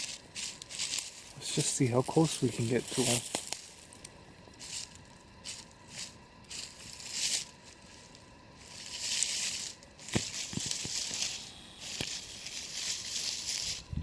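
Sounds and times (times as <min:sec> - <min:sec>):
dry leaves crunching and rustling: 0:00.0 - 0:14.0.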